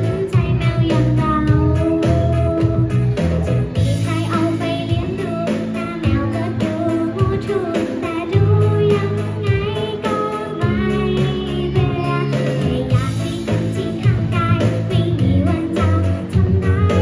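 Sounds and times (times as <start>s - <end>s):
girl singing into a microphone: 0.0s - 17.0s
pop backing music with beat: 0.0s - 17.0s.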